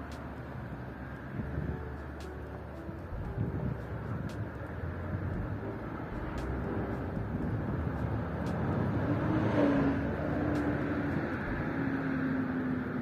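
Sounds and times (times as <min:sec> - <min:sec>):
car passing: 0:00.0 - 0:13.0
steady engine hum: 0:00.0 - 0:13.0.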